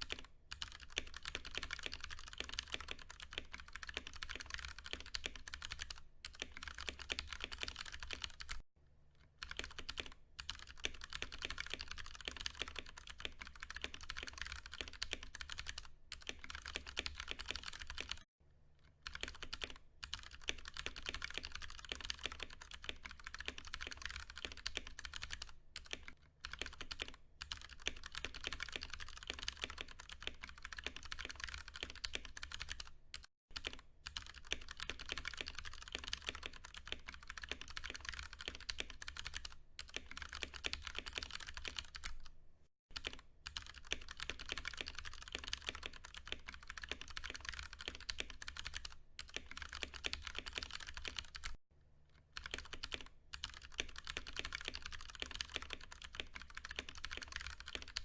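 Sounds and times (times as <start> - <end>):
fast typing on mechanical keyboard: 0.0 - 8.6, 9.4 - 18.3, 19.0 - 42.3, 42.9 - 51.6, 52.3 - 58.0.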